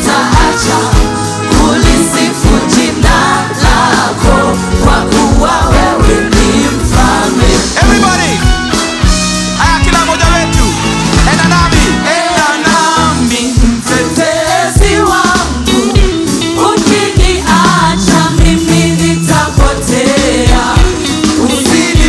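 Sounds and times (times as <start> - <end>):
band playing: 0.0 - 22.0
bass line: 0.0 - 22.0
gospel singing: 0.0 - 22.0
steady drum beat: 0.0 - 22.0.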